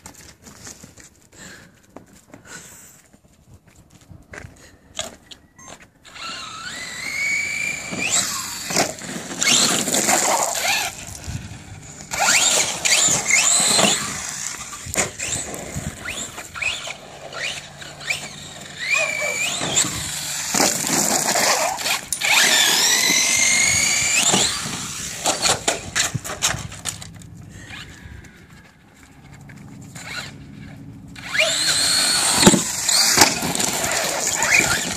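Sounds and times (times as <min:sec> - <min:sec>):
tyres on concrete: 0:00.0 - 0:34.9
electric motor whining: 0:06.0 - 0:28.3, 0:29.2 - 0:34.9.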